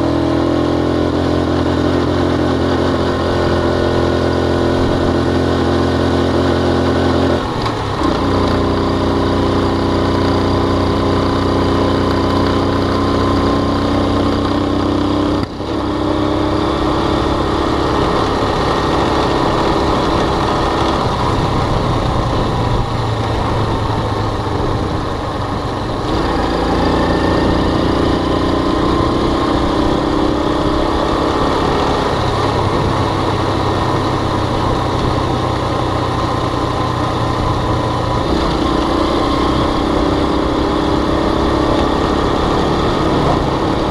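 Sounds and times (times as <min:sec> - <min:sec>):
motorbike engine running: 0:00.0 - 0:43.9.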